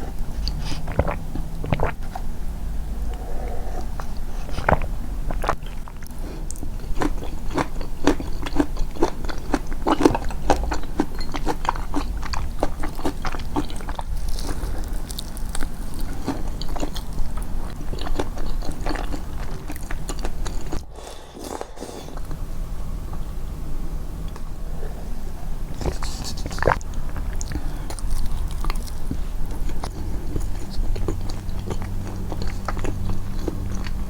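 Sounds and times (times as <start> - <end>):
close-miked chewing: 0.0 - 23.4, 25.4 - 34.0.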